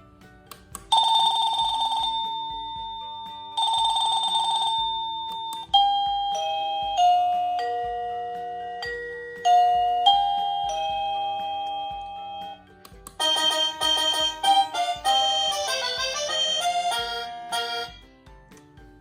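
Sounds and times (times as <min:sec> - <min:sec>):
trilling doorbell tone: 0:00.9 - 0:12.6, 0:13.2 - 0:18.1
electronic doorbell melody: 0:00.9 - 0:18.2.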